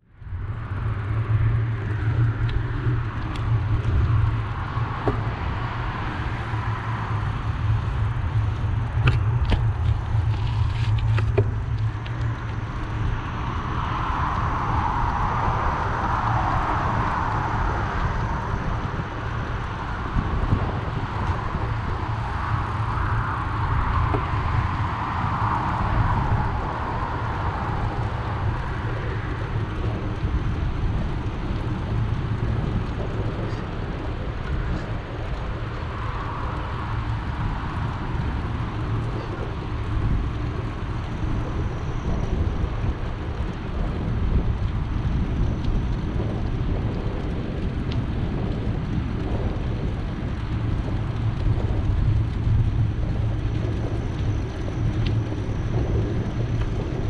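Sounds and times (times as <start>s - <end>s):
wind buffeting microphone: 0.0s - 57.0s
bike tyres rolling on trail: 0.1s - 57.0s.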